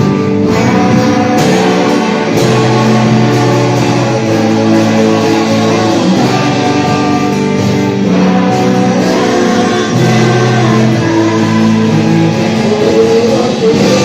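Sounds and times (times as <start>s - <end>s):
guitar-led band music: 0.0s - 14.0s.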